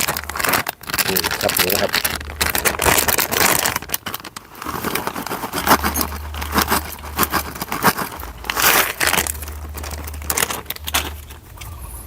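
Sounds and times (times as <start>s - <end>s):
small clicks and crunches: 0.0s - 12.0s.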